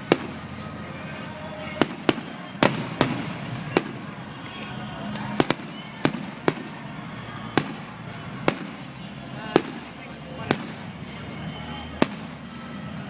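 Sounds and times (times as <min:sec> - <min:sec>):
fireworks bursting with bangs: 0:00.0 - 0:13.0.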